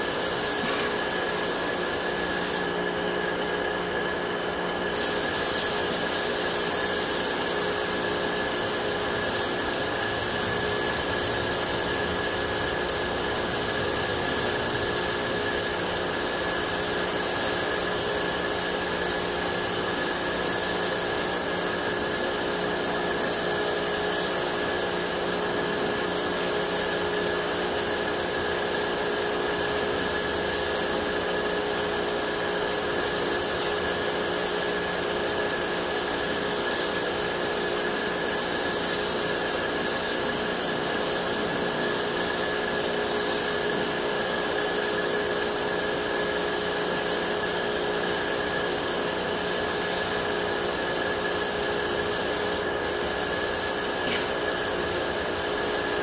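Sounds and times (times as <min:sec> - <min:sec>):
paint spray gun hissing: 0:00.0 - 0:02.8, 0:04.9 - 0:56.0.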